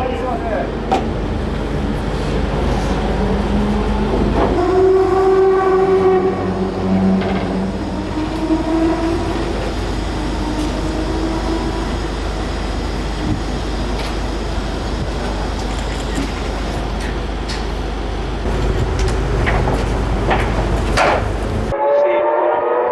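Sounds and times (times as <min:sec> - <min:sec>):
rotary engine fast idle: 0:00.0 - 0:21.8.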